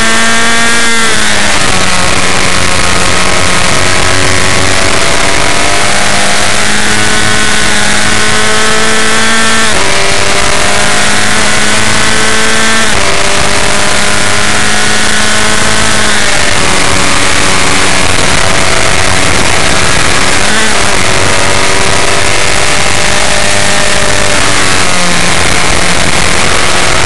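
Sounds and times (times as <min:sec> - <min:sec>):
racing car engine accelerating: 0:00.0 - 0:27.0
wind rush: 0:01.0 - 0:27.0.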